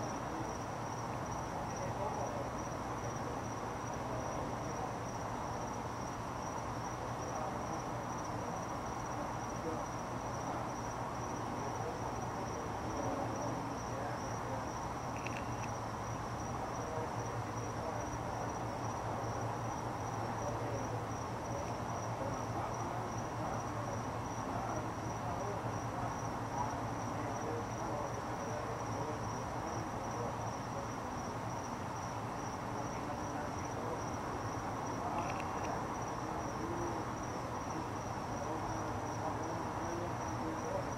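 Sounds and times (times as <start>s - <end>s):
insect trilling: 0.0s - 40.9s.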